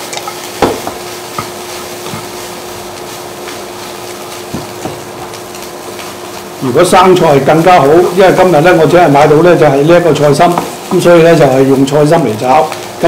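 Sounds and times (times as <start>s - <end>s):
rice sizzling in a wok: 0.0s - 13.0s.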